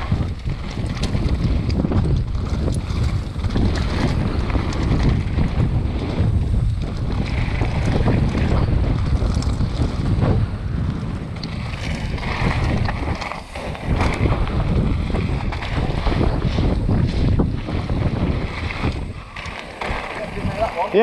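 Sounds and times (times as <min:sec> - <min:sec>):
bike rattling clicks: 0:00.0 - 0:21.0
tyres crunching over gravel: 0:00.0 - 0:21.0
wind on microphone: 0:00.0 - 0:21.0.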